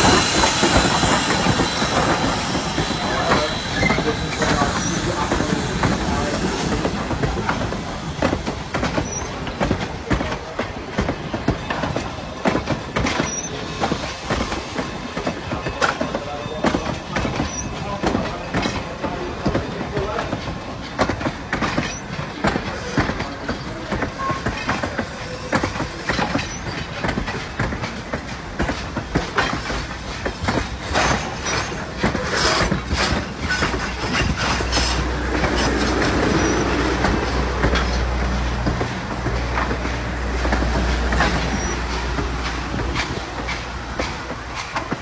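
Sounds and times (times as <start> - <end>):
train wheels clicking over rail joints: 0.0 - 45.0.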